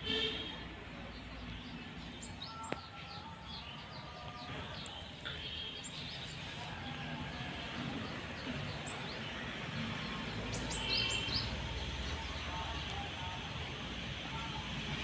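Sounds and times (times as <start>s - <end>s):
steady background noise: 0.0s - 15.0s
small birds chirping: 0.9s - 15.0s.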